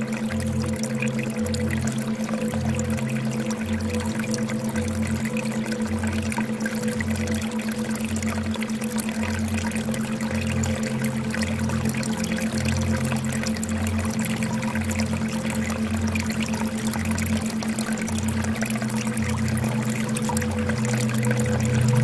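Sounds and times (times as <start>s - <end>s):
low hum: 0.0s - 22.0s
water pouring and trickling: 0.0s - 22.0s.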